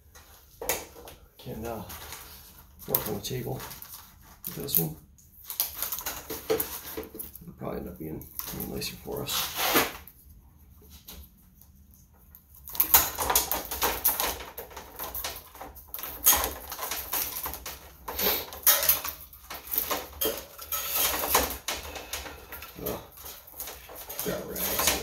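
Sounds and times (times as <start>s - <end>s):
cable rustling and scraping: 0.0s - 25.0s.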